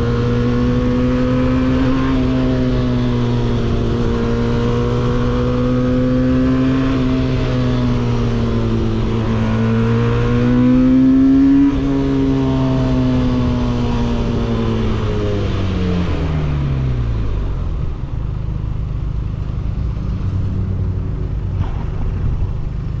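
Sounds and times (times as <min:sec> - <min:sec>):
motorcycle engine revving and idling: 0:00.0 - 0:23.0.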